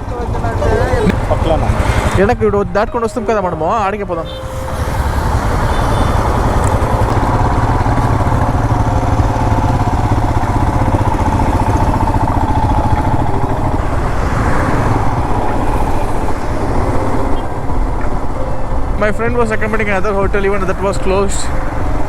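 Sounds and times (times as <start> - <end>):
motorcycle engine: 0.0 - 22.0
road noise: 0.0 - 22.0.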